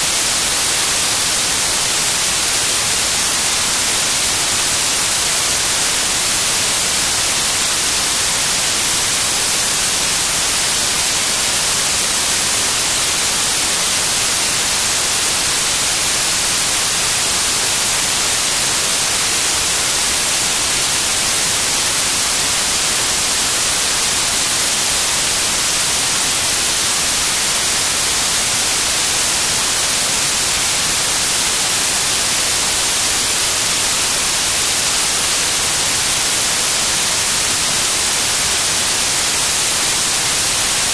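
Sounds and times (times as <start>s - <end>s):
steady static hiss: 0.0s - 40.9s.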